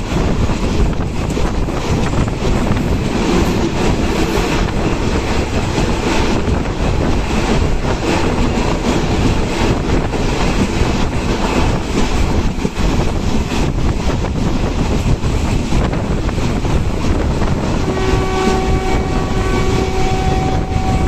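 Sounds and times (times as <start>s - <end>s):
train wheels rushing on rails: 0.0s - 21.0s
wind rushing past microphone: 0.0s - 21.0s.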